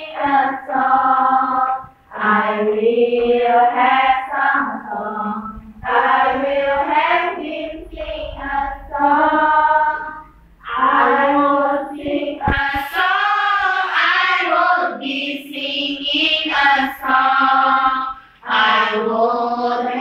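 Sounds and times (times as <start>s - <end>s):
women singing in unison: 0.0s - 20.0s.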